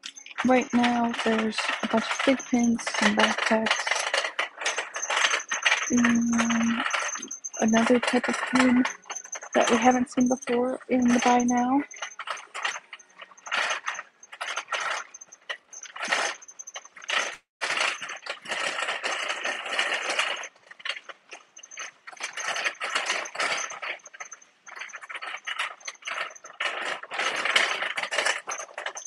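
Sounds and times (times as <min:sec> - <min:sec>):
shopping cart rattling: 0:00.0 - 0:29.0.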